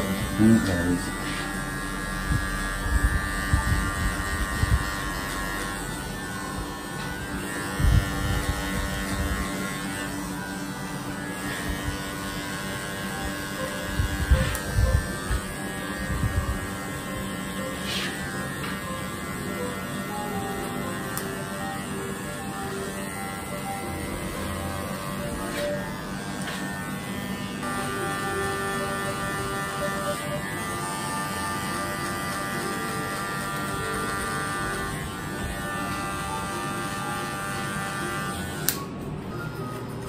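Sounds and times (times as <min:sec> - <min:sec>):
hair clipper buzzing: 0:00.0 - 0:39.8.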